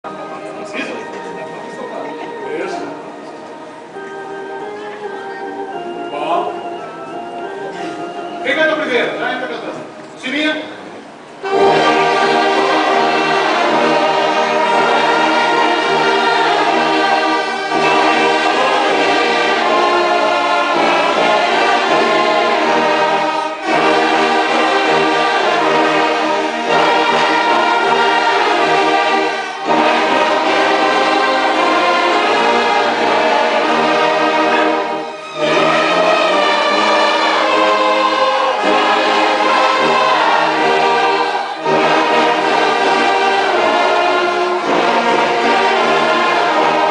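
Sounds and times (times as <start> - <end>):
brass and strings playing a hymn: 0.0 - 46.9.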